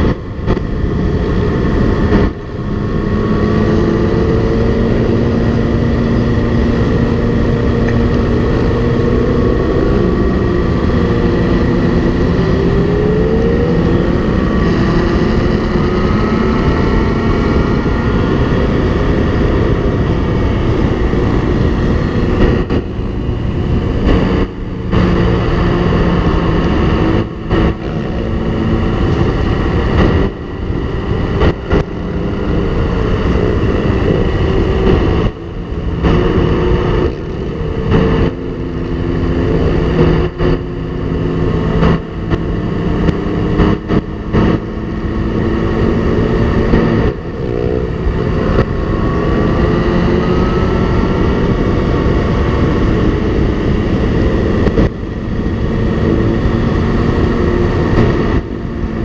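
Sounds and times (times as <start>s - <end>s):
motorcycle engines running: 0.0s - 59.0s
rising engine whine: 0.0s - 59.0s
wind rush on camera: 0.0s - 59.0s.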